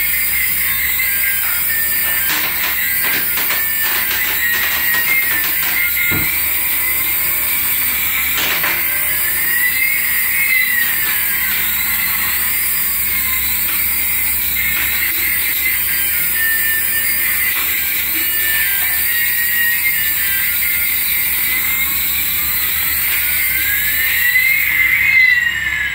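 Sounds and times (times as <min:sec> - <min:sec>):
toy helicopter whirring: 0:00.0 - 0:25.9.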